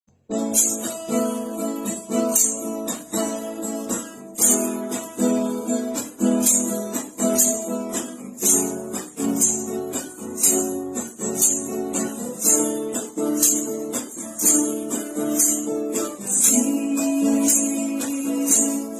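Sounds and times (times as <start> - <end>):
acoustic guitar strumming: 0.1 - 18.9.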